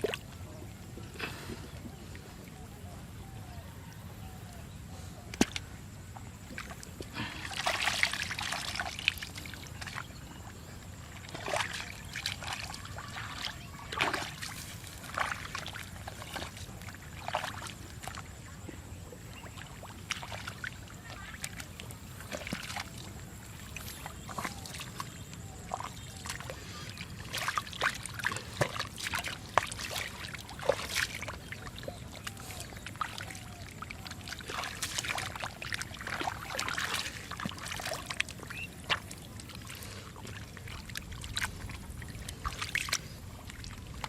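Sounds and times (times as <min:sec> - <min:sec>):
hands splashing in muddy water: 0:06.4 - 0:10.2, 0:11.1 - 0:18.3, 0:19.5 - 0:44.0.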